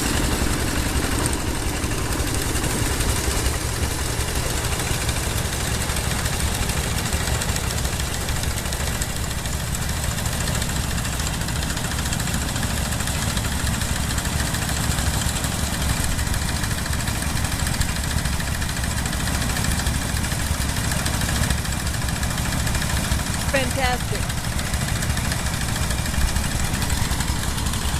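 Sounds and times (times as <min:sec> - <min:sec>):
farm machine engine running: 0:00.0 - 0:27.9.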